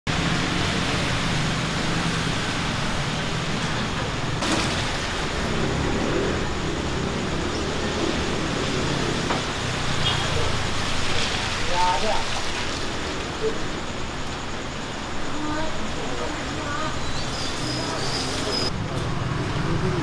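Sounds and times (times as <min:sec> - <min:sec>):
road traffic rumble: 0:00.1 - 0:20.0.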